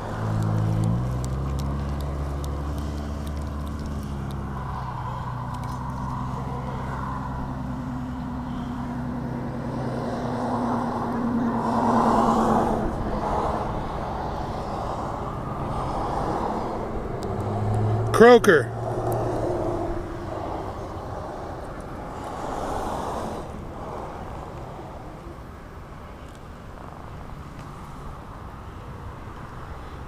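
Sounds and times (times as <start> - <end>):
vehicle passing: 0.0 - 25.5
low traffic engine hum: 0.0 - 30.0.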